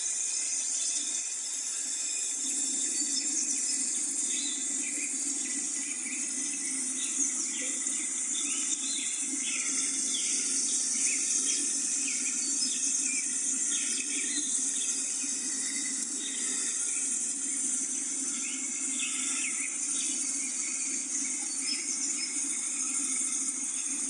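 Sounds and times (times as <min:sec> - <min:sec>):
steady high hiss: 0:00.0 - 0:24.0
small birds chirping: 0:01.9 - 0:24.0.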